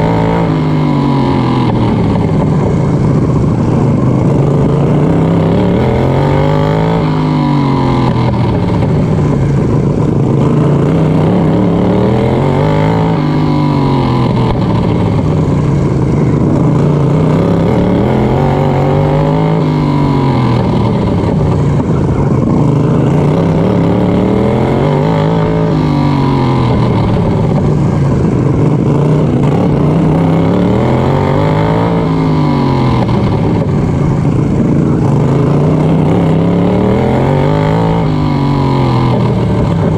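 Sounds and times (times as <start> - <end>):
lawnmower engine revving: 0.0 - 39.9.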